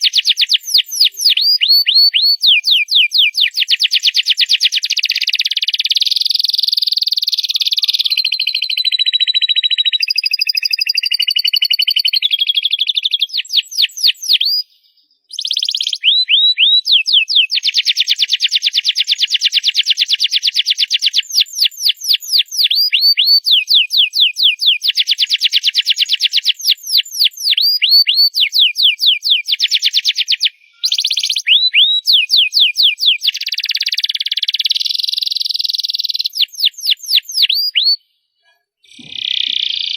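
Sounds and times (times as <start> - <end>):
canary singing trills: 0.0 - 38.2, 38.9 - 39.9.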